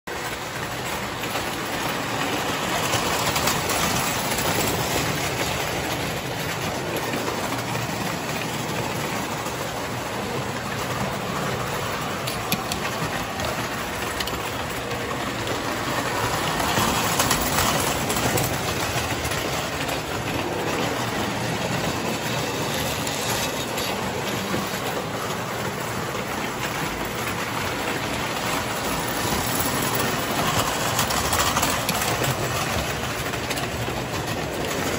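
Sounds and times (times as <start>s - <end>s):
model train motors whirring: 0.1s - 34.9s
wheels clattering over track: 0.1s - 34.9s.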